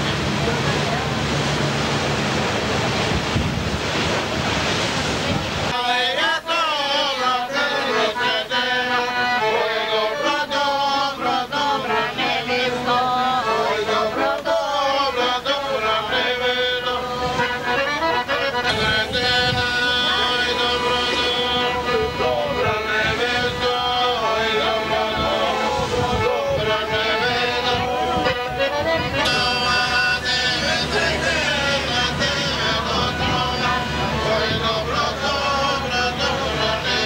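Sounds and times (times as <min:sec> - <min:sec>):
sea rushing: 0:00.0 - 0:37.0
wind: 0:00.0 - 0:37.0
person singing: 0:05.7 - 0:37.0
held accompanying notes: 0:07.0 - 0:37.0.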